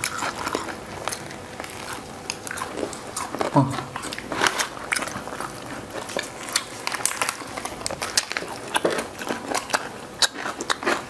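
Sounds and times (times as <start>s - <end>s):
crunchy food chewing: 0.0s - 11.0s.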